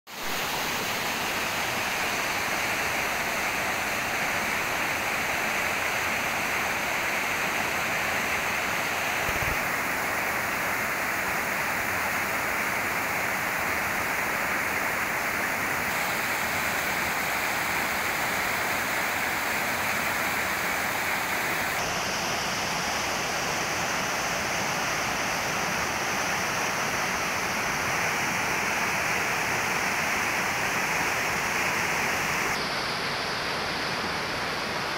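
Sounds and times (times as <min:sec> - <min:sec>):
stream rushing over boulders: 0:00.1 - 0:34.9.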